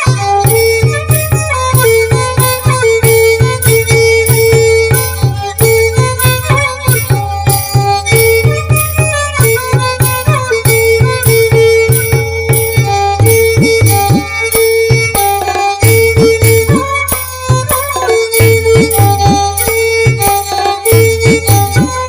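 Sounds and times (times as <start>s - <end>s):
bowed fiddle sliding melody: 0.0s - 22.0s
steady drum beat: 0.0s - 22.0s.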